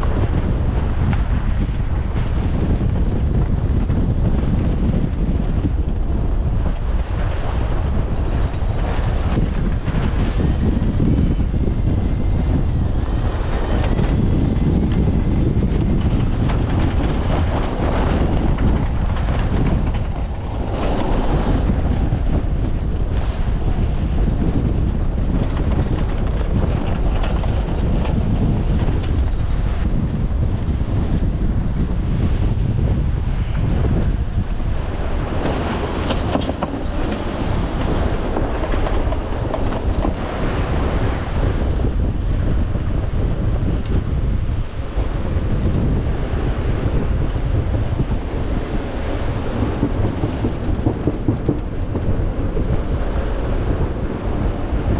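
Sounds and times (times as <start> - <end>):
water rushing along hull: 0.0 - 54.9
wind buffeting microphone: 0.0 - 54.9.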